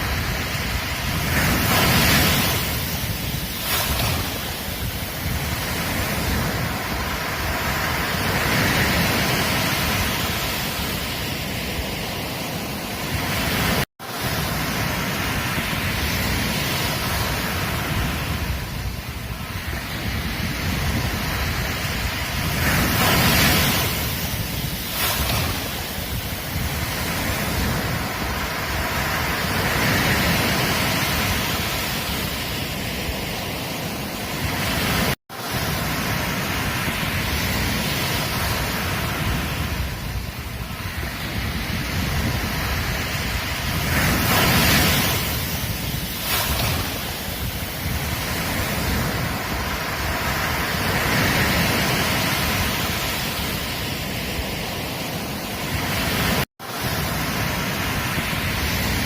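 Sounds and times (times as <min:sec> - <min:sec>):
ocean waves on a beach: 0:00.0 - 0:59.0.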